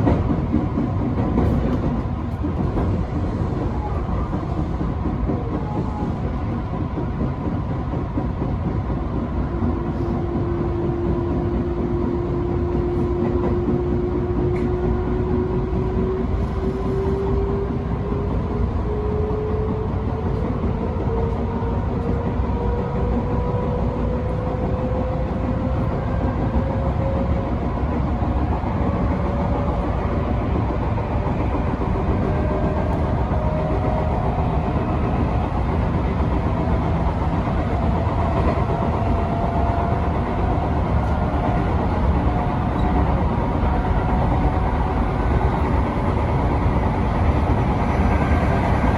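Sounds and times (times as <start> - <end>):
train rolling rumble: 0.0 - 48.9
train motor whine: 9.4 - 48.9.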